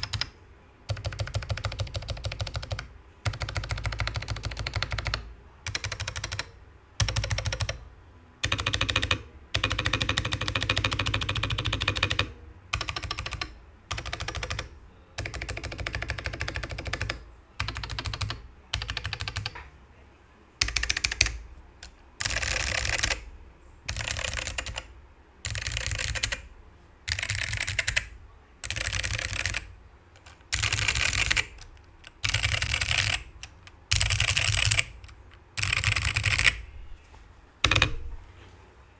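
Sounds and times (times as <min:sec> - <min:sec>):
mechanical keyboard typing: 0:00.0 - 0:07.8, 0:08.4 - 0:19.7, 0:20.6 - 0:23.3, 0:23.9 - 0:26.5, 0:27.1 - 0:36.6, 0:37.6 - 0:38.1.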